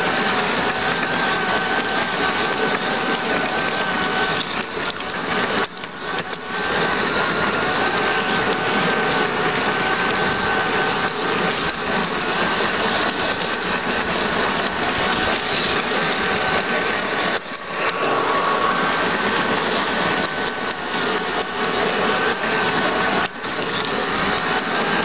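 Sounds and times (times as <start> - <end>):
electric motor whine: 0.0 - 25.0
wheels rattling on track: 0.0 - 25.0.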